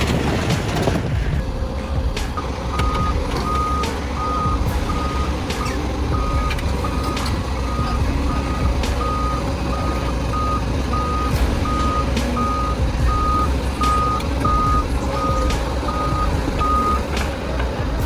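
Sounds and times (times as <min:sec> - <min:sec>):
diesel engine running: 0:00.0 - 0:18.0
reversing alarm beeping: 0:00.0 - 0:18.0.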